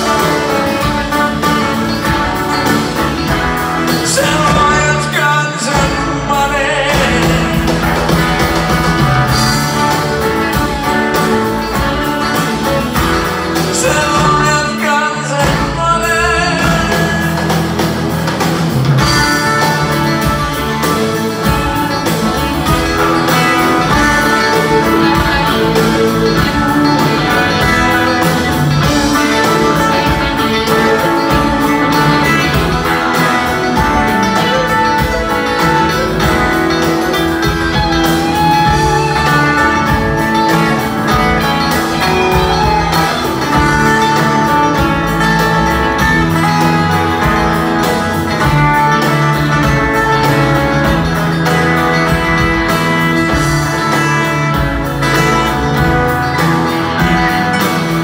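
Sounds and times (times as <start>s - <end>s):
drums: 0.0s - 58.0s
guitars: 0.0s - 58.0s
keyboards: 0.0s - 58.0s
upright bass: 0.0s - 58.0s.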